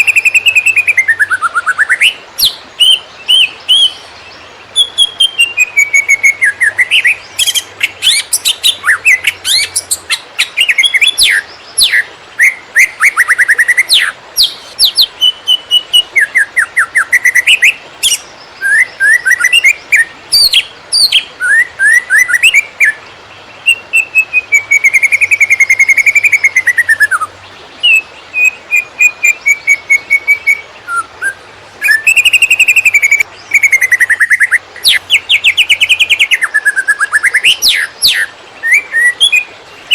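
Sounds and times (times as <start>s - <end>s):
bird singing whistles and trills: 0.0s - 23.0s, 23.6s - 39.9s.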